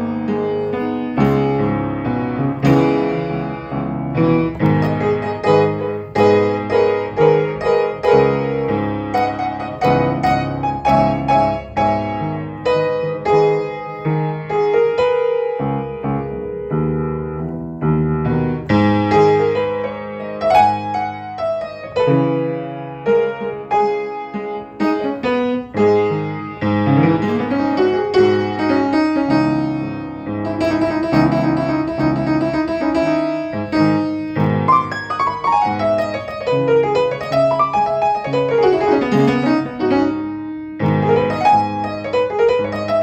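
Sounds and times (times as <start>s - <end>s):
upright piano playing chords: 0.0s - 43.0s.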